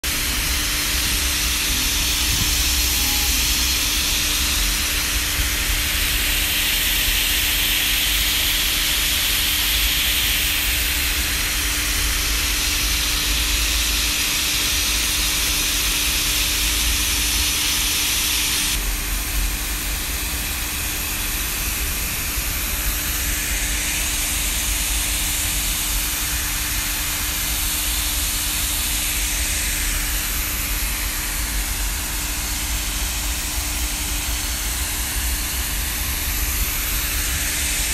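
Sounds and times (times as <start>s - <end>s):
machine hum: 0.0s - 37.9s
steady rushing hiss: 0.0s - 37.9s.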